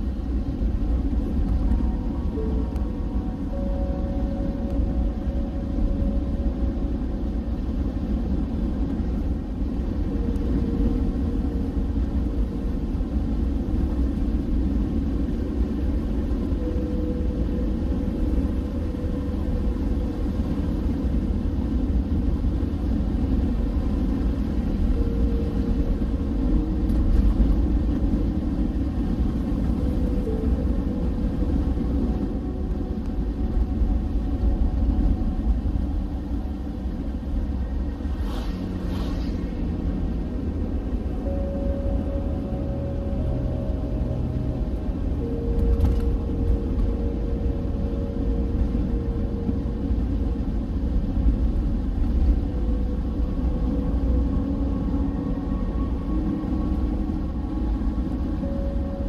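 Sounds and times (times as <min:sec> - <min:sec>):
vehicle tyres and engine rumble: 0:00.0 - 0:59.0.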